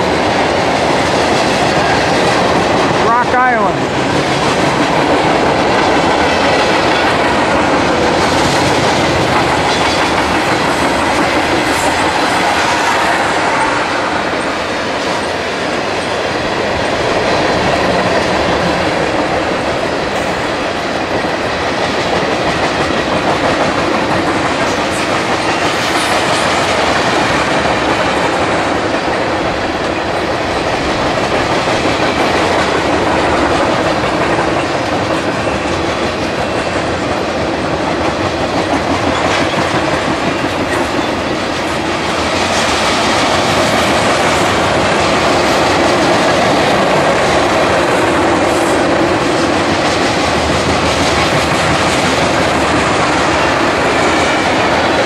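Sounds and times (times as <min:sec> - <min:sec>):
steel wheels rolling on rails: 0:00.0 - 0:55.0.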